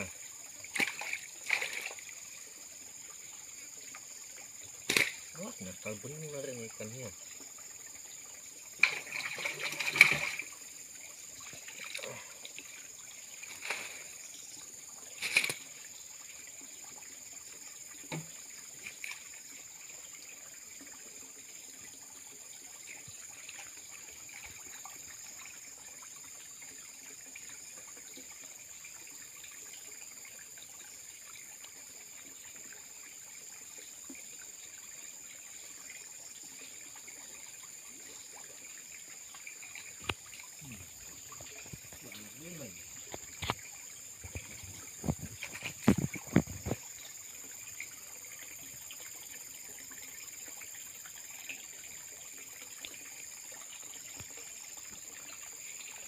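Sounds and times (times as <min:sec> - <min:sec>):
trickle of running water: 0:00.0 - 0:56.0
water splashing in a pond: 0:00.0 - 0:56.0.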